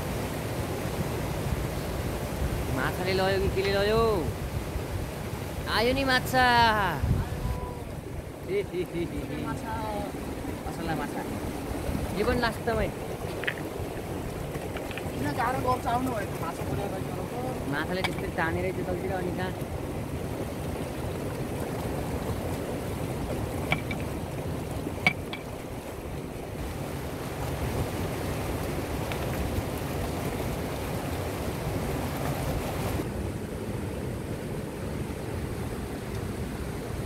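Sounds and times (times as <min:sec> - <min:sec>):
river rushing: 0:00.0 - 0:37.0
wind rumble on microphone: 0:00.0 - 0:37.0.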